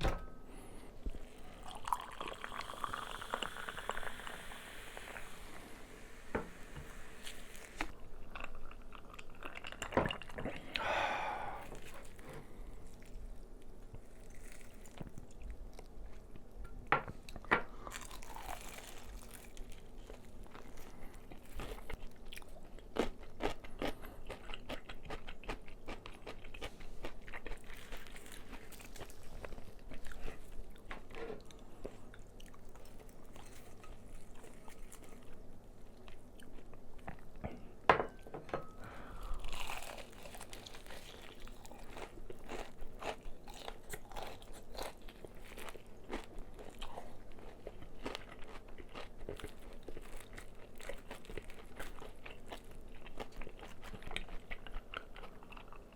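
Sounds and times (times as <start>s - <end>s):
crunchy food being chewed: 7.2s - 10.8s, 11.5s - 37.4s, 39.3s - 55.9s.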